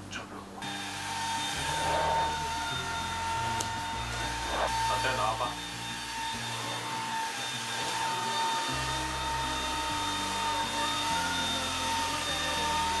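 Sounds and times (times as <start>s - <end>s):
background music: 0.0s - 13.0s
stick vacuum cleaner running: 0.6s - 13.0s.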